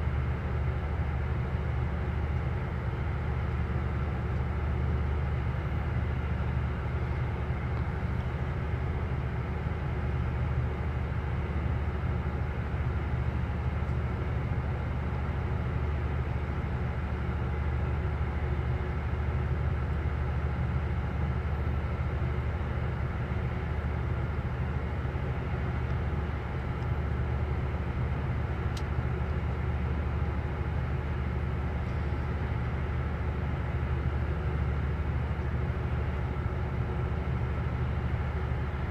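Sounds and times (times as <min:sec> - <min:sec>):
ferry engines droning: 0:00.0 - 0:38.9.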